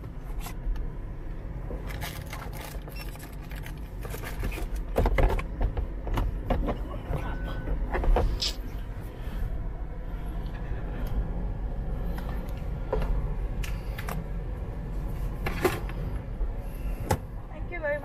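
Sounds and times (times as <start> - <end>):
car engine idling hum: 0.0 - 18.0.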